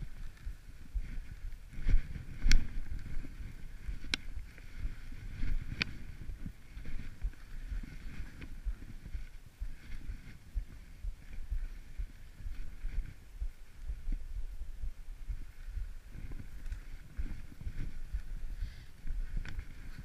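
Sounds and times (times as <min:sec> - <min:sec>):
skis running through snow: 0:00.0 - 0:13.8, 0:15.2 - 0:20.0.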